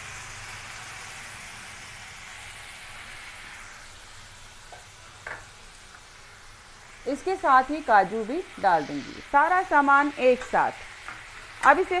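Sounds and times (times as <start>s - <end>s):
tomatoes sizzling in ghee: 0.0s - 12.0s.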